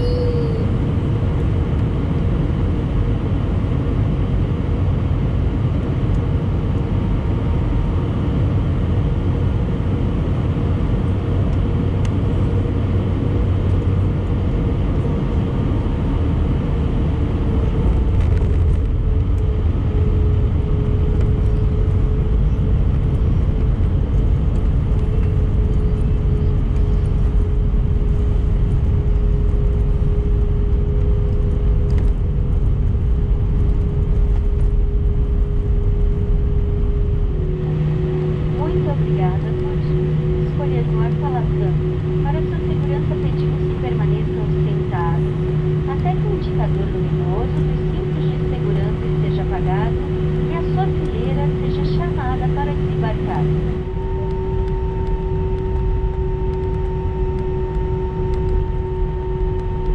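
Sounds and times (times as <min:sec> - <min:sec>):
jet engine and airflow noise: 0:00.0 - 0:59.9.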